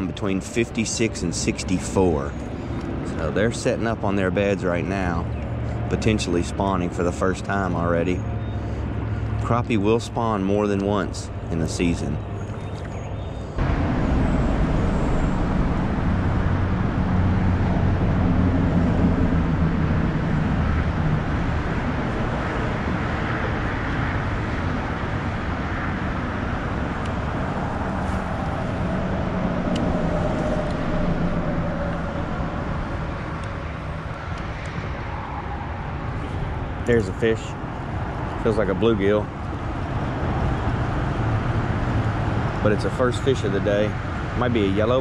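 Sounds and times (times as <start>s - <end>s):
traffic rumble on bridge: 0.0s - 45.0s.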